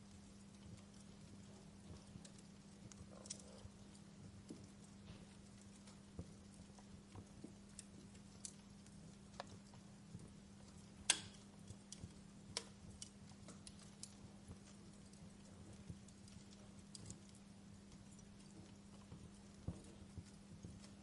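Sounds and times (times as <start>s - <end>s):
soft steady hiss: 0.0s - 21.0s
wood fire crackling: 0.0s - 21.0s.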